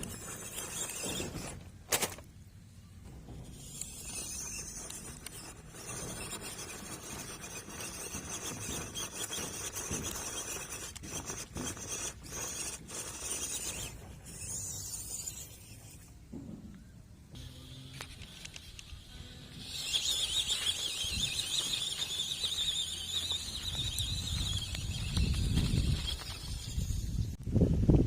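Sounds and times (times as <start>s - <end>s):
rc car motor whirring: 0.0s - 2.3s, 3.4s - 16.2s, 17.4s - 27.4s
tyres rasping and scrabbling: 0.0s - 27.4s.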